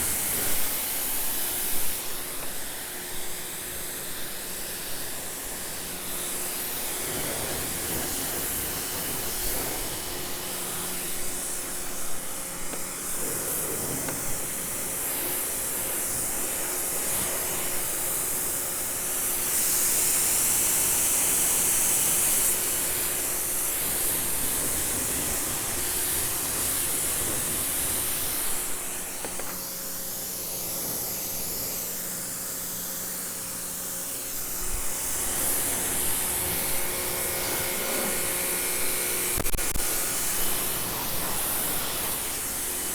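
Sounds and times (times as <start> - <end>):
pressure washer water jet hissing: 0.0 - 42.9.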